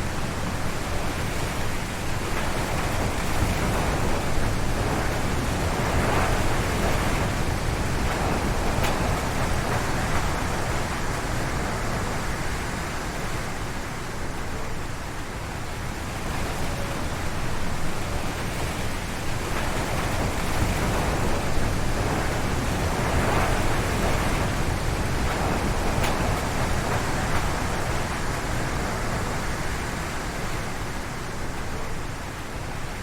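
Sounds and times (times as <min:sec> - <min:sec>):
strong wind gusting through trees: 0:00.0 - 0:33.0.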